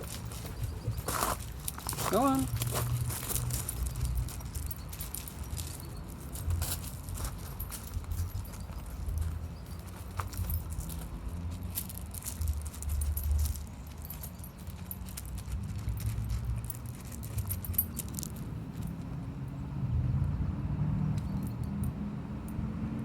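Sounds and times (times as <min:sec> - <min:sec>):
metallic tags jingling: 0:00.0 - 0:20.4, 0:21.0 - 0:23.0.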